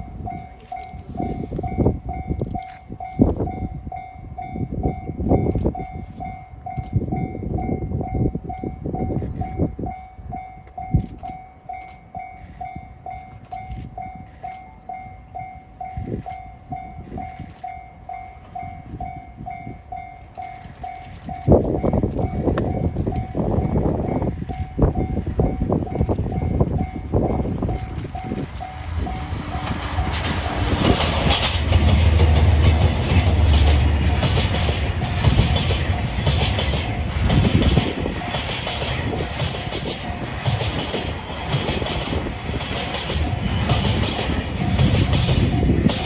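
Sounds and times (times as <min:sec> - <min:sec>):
level-crossing alarm bell ringing: 0:00.0 - 0:46.0
train wagons rumbling and clattering: 0:00.0 - 0:46.0.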